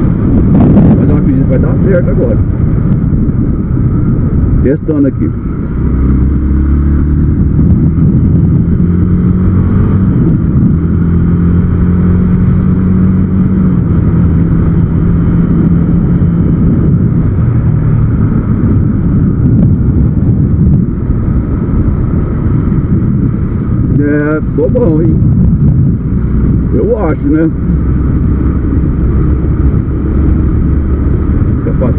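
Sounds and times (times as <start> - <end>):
light wind rush: 0.0 - 31.9
motorcycle engine hum: 0.0 - 31.9.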